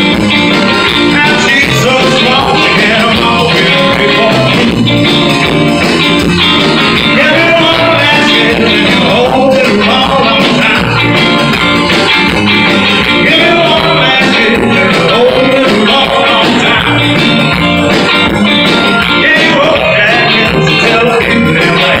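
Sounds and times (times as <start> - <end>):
electric bass: 0.0 - 22.0
electric guitars: 0.0 - 22.0
steady drum beat: 0.0 - 22.0.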